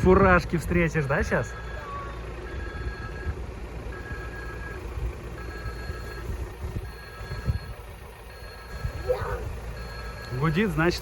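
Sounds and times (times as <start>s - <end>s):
level crossing warning signal: 1.0s - 11.0s.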